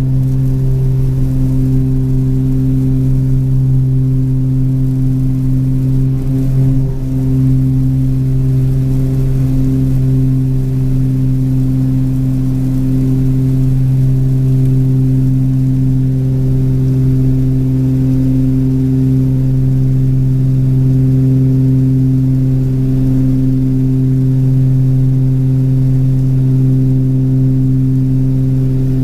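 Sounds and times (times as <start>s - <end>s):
aircraft engines droning in cockpit: 0.0s - 29.0s.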